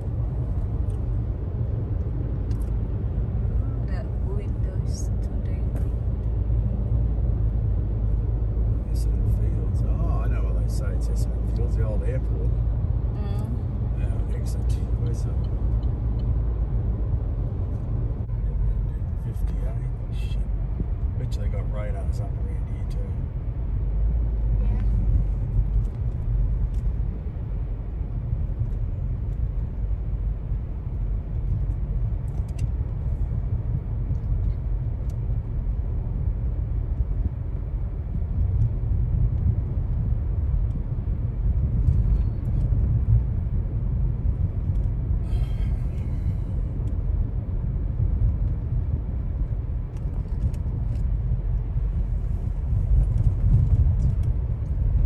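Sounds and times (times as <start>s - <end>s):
road and engine rumble inside car: 0.0s - 55.0s.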